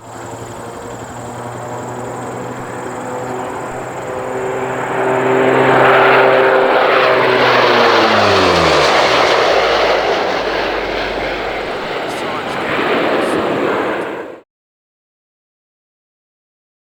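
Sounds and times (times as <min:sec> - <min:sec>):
turboprop aircraft flying past: 0:00.0 - 0:14.4.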